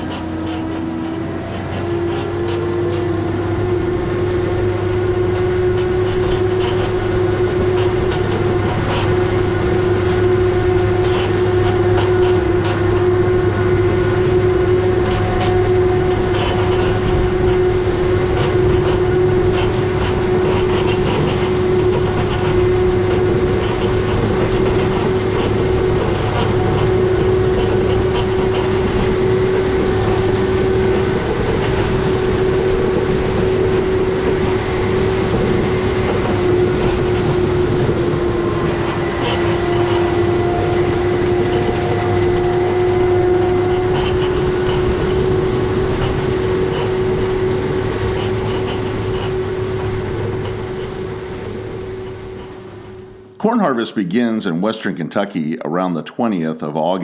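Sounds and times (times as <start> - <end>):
strong steady whine: 0.0 - 54.7
low engine drone: 0.0 - 57.0.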